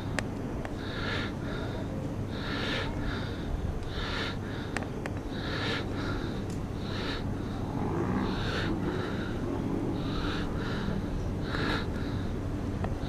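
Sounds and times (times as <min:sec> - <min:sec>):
person breathing fast: 0:00.0 - 0:13.0
steady low hum: 0:00.0 - 0:13.0.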